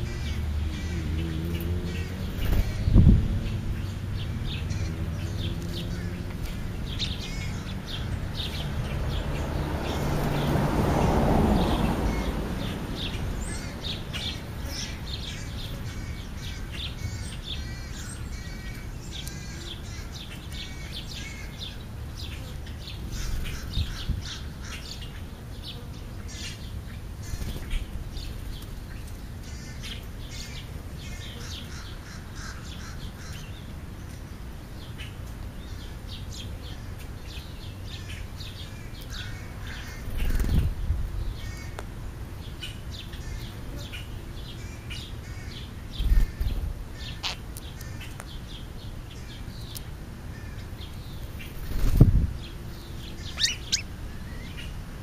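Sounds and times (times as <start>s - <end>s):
starlings chirping: 0.0s - 41.8s, 42.4s - 55.0s.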